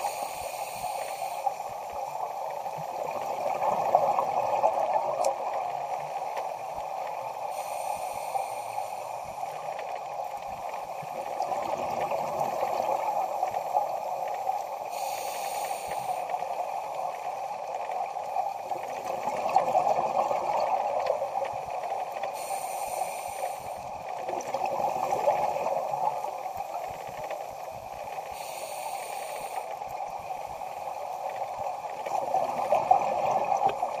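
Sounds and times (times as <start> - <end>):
muffled underwater water rush: 0.0 - 34.0.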